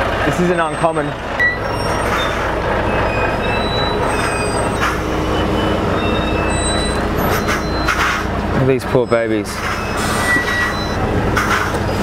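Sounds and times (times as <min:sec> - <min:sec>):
lorry engine rumbling: 0:00.0 - 0:12.0
short high squeaks: 0:01.5 - 0:08.3, 0:09.1 - 0:12.0.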